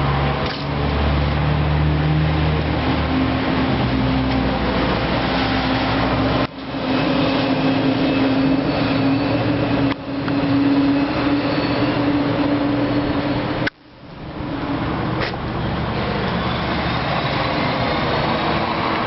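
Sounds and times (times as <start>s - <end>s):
engine droning hum: 0.0s - 19.0s.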